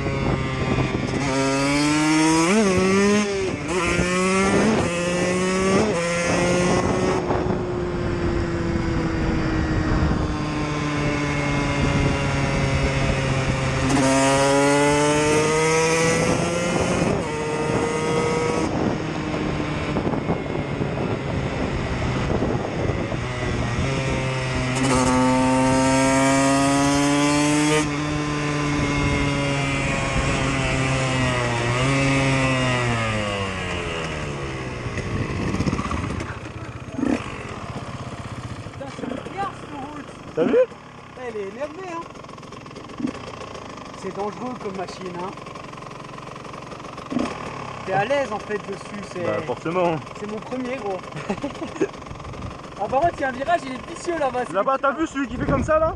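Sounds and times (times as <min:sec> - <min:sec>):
motorcycle engines revving: 0:00.0 - 0:55.9.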